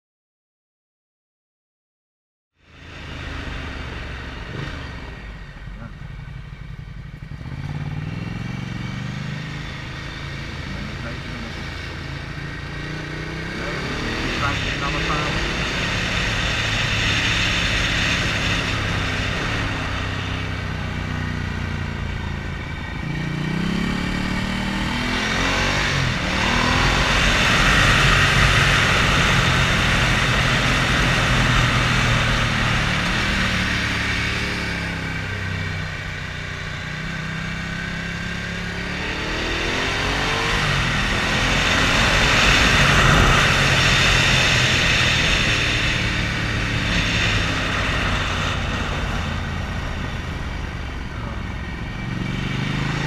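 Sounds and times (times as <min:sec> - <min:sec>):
motorcycle engine accelerating: 0:02.6 - 0:53.0.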